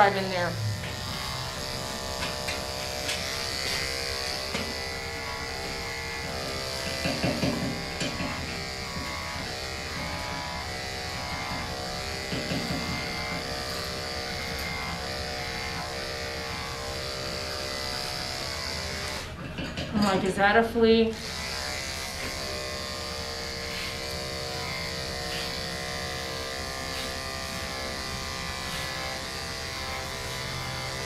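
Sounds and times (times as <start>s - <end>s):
electric dog clipper buzzing: 0.0s - 31.0s.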